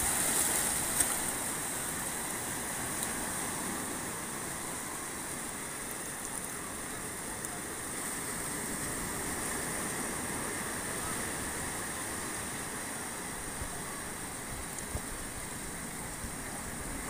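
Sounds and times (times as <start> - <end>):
waves washing over rocks: 0.0 - 17.0.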